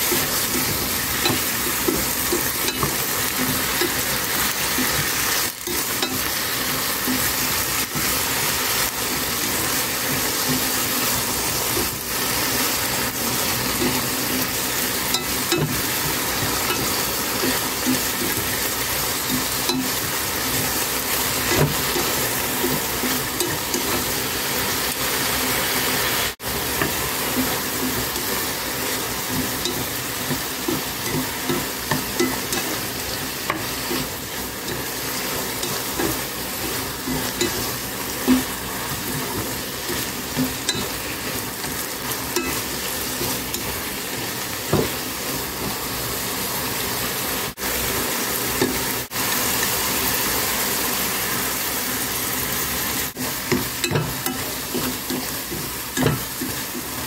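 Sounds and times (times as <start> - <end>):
wooden spatula scraping and tapping: 0.0 - 24.3, 26.7 - 45.8, 53.1 - 57.0
eggplant sizzling in a hot pot: 0.0 - 57.0.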